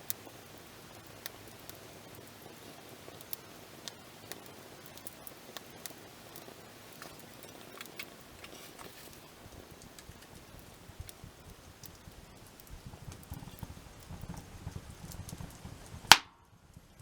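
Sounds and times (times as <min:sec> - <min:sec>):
campfire crackling and popping: 0:00.0 - 0:17.0
rush of burning: 0:00.0 - 0:17.0.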